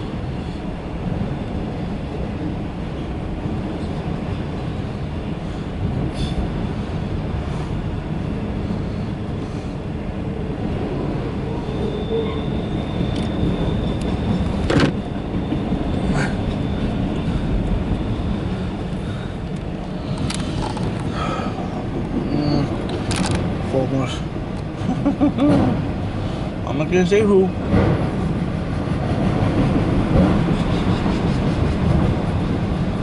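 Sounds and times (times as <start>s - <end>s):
freight car wheels rumbling on rail: 0.0s - 33.0s.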